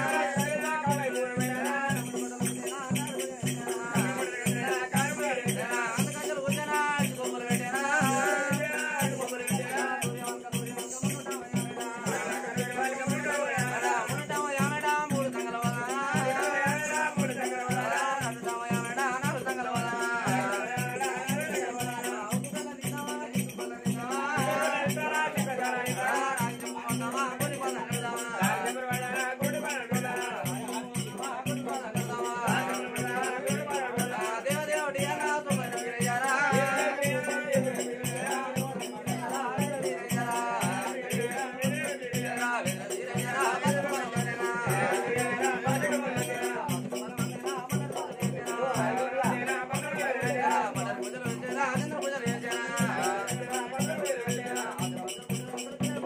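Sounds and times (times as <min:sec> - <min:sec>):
drum beat: 0:00.0 - 0:56.0.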